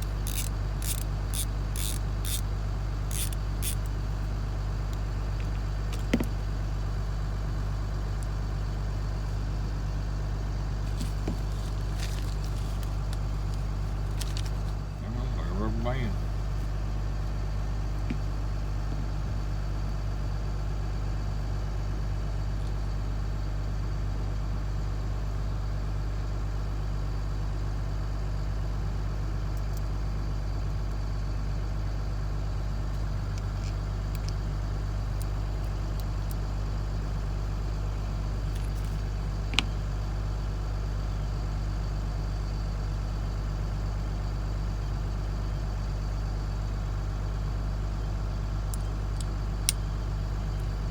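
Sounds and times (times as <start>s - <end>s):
engine idling hum: 0.0s - 50.9s.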